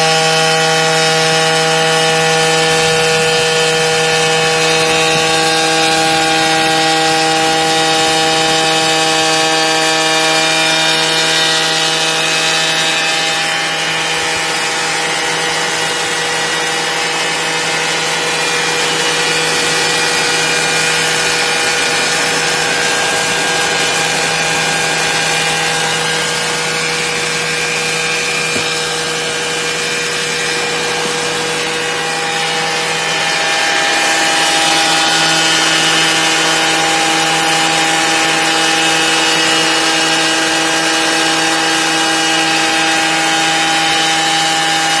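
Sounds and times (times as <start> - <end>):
harvester machine whining and rattling: 0.0 - 45.0.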